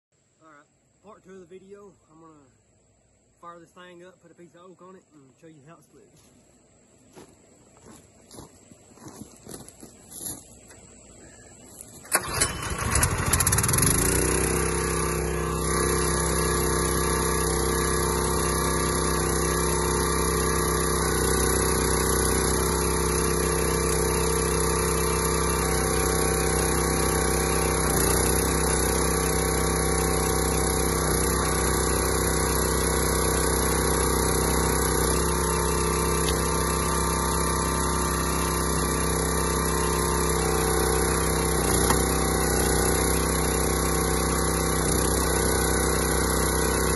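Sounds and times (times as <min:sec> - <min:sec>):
small gasoline engine running: 0:08.3 - 0:46.9.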